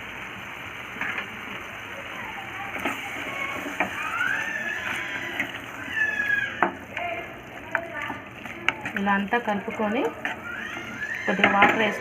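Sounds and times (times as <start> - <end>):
curry sizzling in pan: 0.0 - 12.0.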